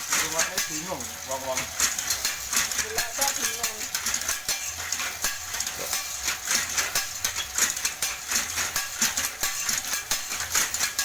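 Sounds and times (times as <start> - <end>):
machine clattering: 0.0 - 11.0.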